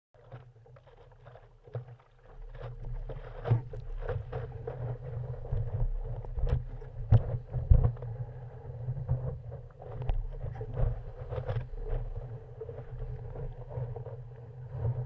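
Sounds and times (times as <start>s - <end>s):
water splashing against paddleboard: 0.2s - 15.0s.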